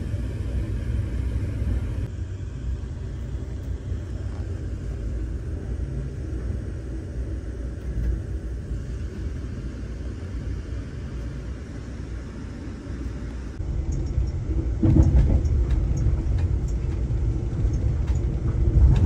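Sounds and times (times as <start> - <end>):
train rumbling from on board: 0.0 - 19.0.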